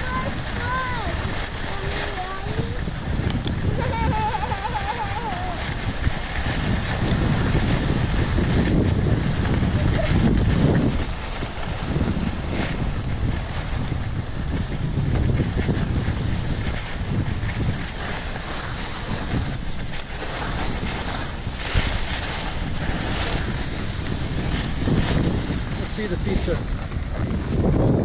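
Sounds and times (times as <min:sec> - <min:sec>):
skis scraping over snow: 0:00.0 - 0:28.0
wind on microphone: 0:00.0 - 0:28.0.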